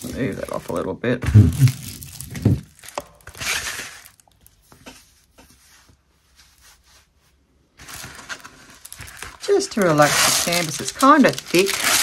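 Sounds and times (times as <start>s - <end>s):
plastic film rustling and crinkling: 0.0s - 12.0s.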